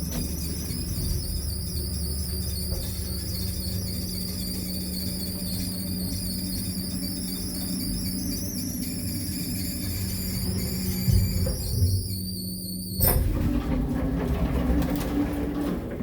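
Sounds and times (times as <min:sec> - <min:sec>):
elevator scratchy squeal: 0:00.0 - 0:15.6
elevator low hum: 0:00.0 - 0:16.0.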